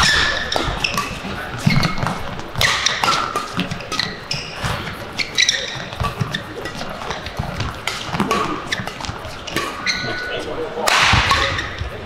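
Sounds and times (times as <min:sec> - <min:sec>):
rackets hitting shuttlecock: 0:00.0 - 0:10.2, 0:10.8 - 0:12.0
shoes squeaking on court: 0:00.0 - 0:12.0.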